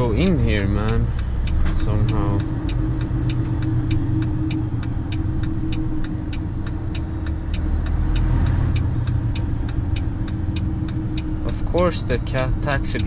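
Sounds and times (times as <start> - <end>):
diesel engine drone: 0.0 - 13.0
turn signal ticking: 0.0 - 13.0.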